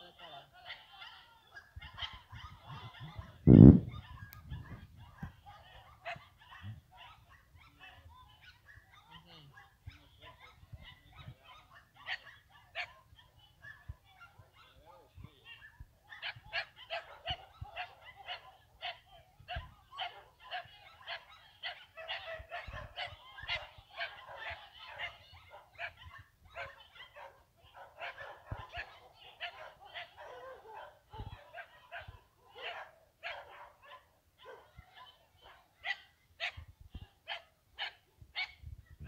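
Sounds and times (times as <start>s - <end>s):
dogs barking: 0.0s - 38.6s.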